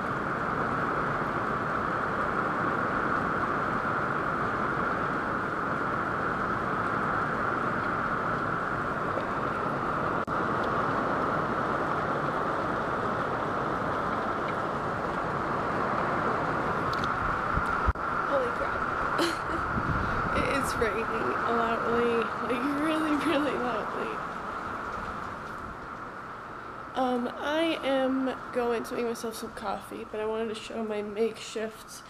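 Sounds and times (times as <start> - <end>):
heavy rain: 0.0 - 32.0.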